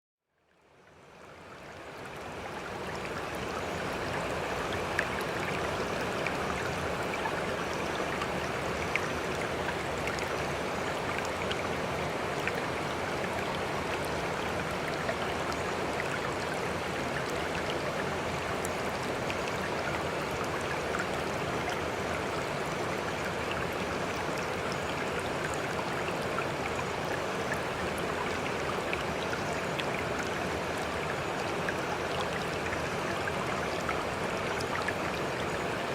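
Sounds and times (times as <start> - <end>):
running water: 1.3 - 35.9.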